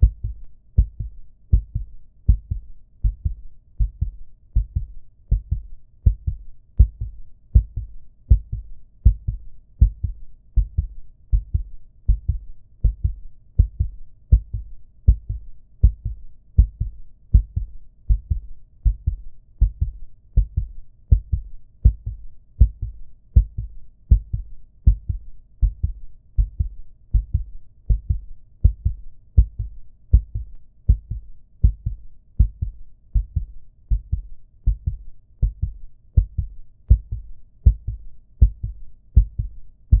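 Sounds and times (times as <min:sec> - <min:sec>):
heartbeat thumps: 0:00.0 - 0:40.0.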